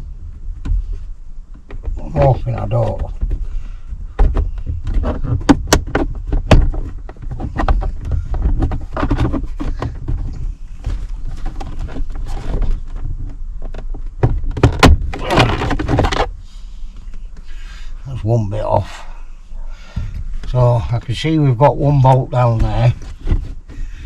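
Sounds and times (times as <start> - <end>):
plastic panel scraping: 0.4 - 17.8, 19.8 - 24.0.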